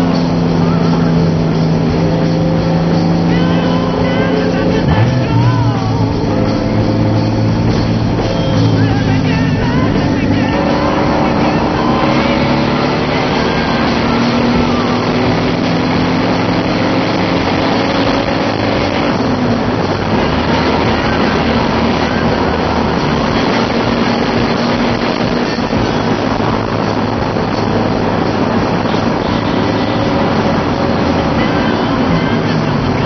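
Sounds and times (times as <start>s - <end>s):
car engine from inside cabin: 0.0s - 33.0s
road noise: 0.0s - 33.0s.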